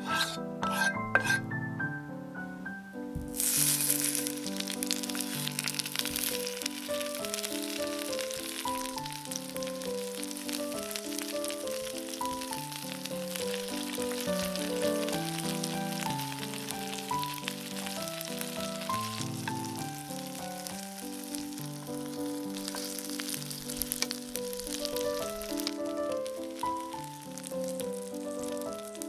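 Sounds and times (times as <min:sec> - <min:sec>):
light background music: 0:00.0 - 0:29.0
food frying in oil: 0:03.2 - 0:29.0.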